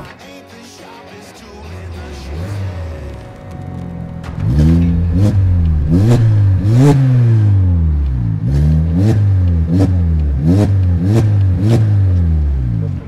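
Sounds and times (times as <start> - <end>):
car engine revving: 1.6 - 13.0.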